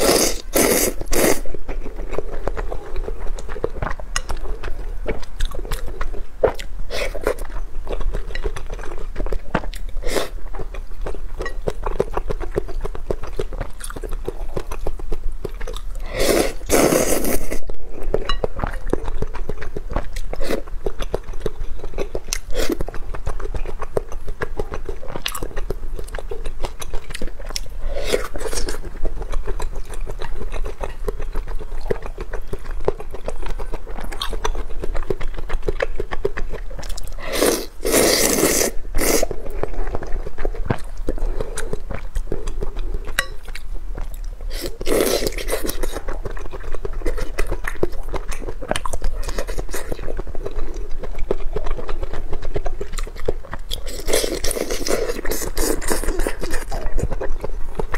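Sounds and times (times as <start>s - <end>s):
person chewing noodles: 0.0s - 57.9s.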